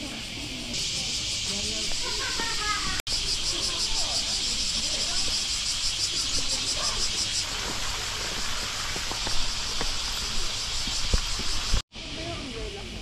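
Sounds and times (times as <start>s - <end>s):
faint voices: 0.0s - 13.0s
steady hiss: 0.0s - 13.0s.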